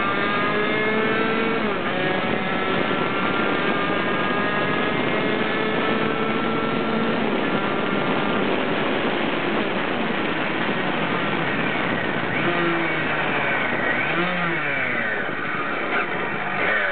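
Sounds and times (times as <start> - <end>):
two-stroke moped engine revving: 0.0 - 16.9
wind rush on microphone: 0.0 - 16.9.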